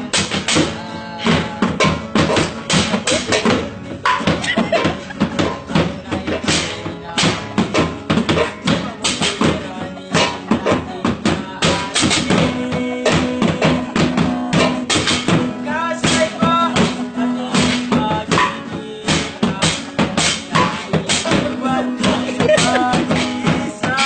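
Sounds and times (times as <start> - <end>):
acoustic guitar: 0.0 - 24.0
drums on bucket and metal: 0.0 - 24.0.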